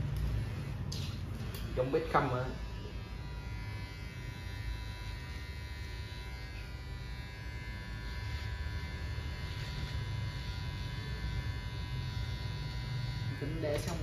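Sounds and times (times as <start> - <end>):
electric hair clipper buzzing: 0.0 - 14.0.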